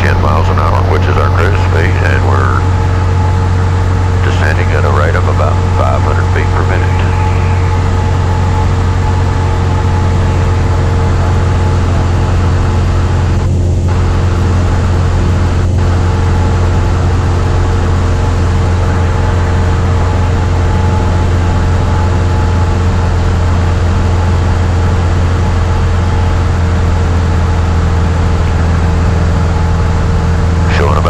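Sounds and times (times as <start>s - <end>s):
airplane engine droning in cabin: 0.0s - 31.0s.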